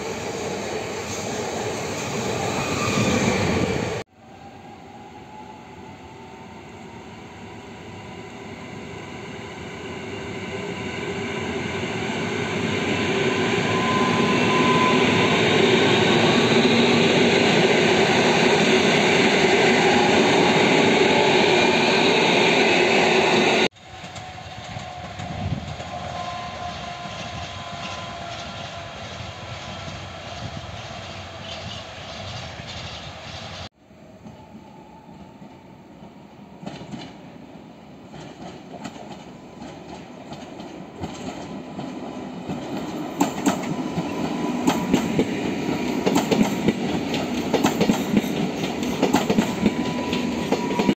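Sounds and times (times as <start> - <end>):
distant freight train rolling: 0.0 - 50.9
electric train running past: 0.0 - 50.9.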